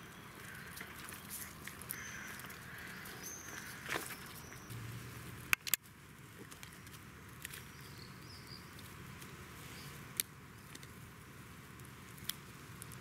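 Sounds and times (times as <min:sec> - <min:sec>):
dogs gnawing twigs: 0:00.2 - 0:11.0, 0:11.8 - 0:13.0.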